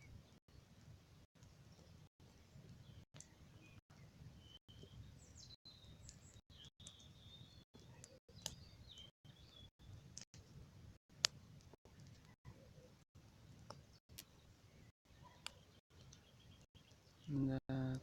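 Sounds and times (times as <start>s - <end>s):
bonfire crackling and popping: 0.7s - 12.4s, 13.1s - 14.6s, 15.4s - 18.0s.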